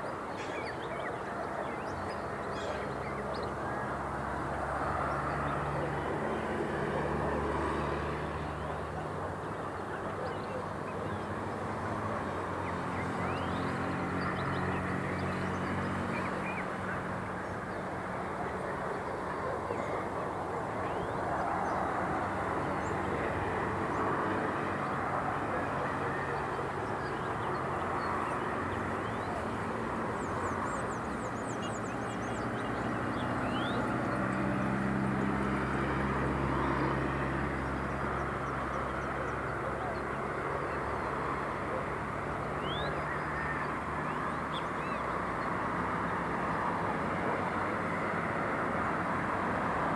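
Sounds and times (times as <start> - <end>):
traffic noise: 0.0 - 49.9.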